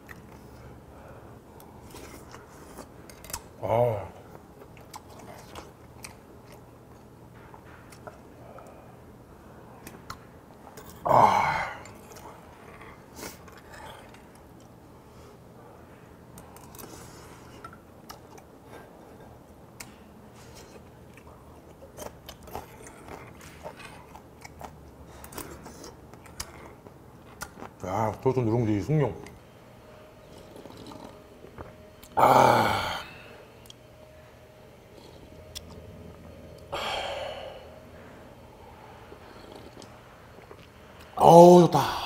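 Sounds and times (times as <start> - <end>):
quiet chewing: 0.0 - 3.6, 4.2 - 9.0, 11.8 - 28.2, 29.2 - 32.2, 33.5 - 36.7, 38.0 - 41.2.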